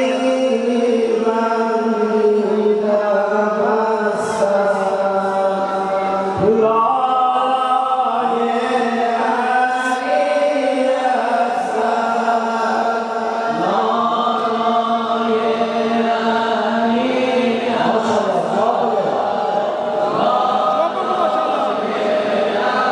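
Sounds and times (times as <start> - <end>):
men chanting a lament into microphones: 0.0 - 22.9.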